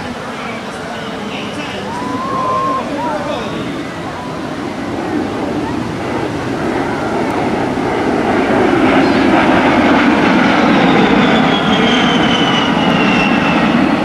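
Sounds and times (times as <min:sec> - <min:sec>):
jet engine rush: 0:00.0 - 0:14.0
jet engine whine: 0:00.0 - 0:14.0.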